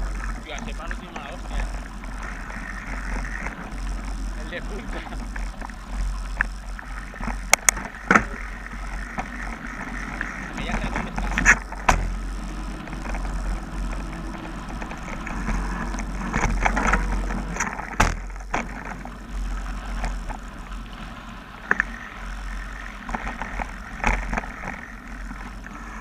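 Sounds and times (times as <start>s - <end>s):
bike rattling and knocking: 0.0s - 25.7s
tyres on loose dirt: 0.0s - 26.0s
wind rumbling on microphone: 0.0s - 26.0s.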